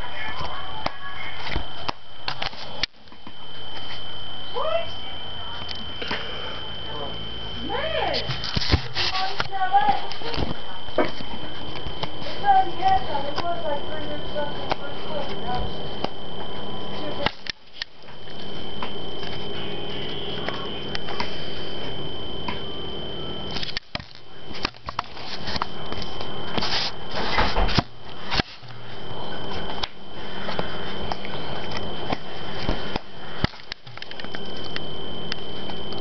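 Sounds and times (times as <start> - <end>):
high-pitched whine: 0.0 - 36.0
low hum: 0.0 - 36.0.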